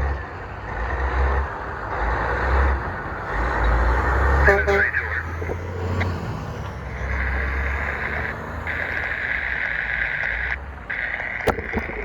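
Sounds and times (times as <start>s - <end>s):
train rumbling by: 0.0s - 10.9s.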